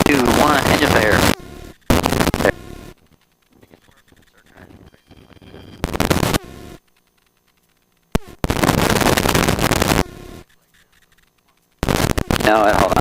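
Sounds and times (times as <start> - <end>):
static-like hiss bursts: 0.0 - 13.0.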